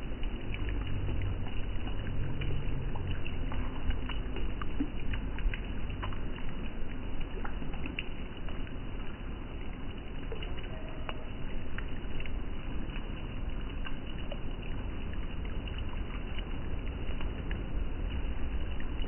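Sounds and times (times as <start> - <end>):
river water flowing: 0.0 - 19.0
small splashes and drips: 0.0 - 19.0.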